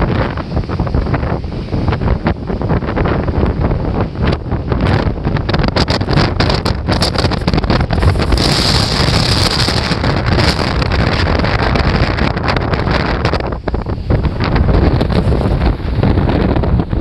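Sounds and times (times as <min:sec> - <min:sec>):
gusty wind buffeting microphone: 0:00.0 - 0:17.0
heavy surf breaking: 0:00.0 - 0:17.0.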